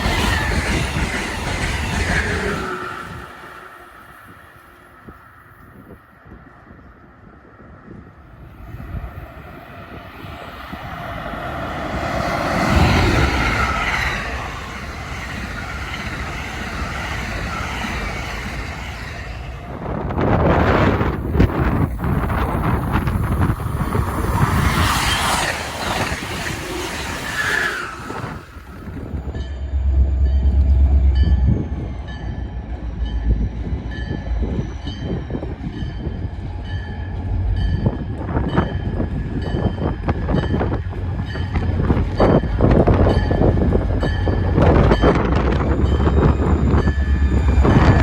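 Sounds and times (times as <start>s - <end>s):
passenger train passing: 0.0s - 48.0s
train whine with falling tone: 0.0s - 48.0s.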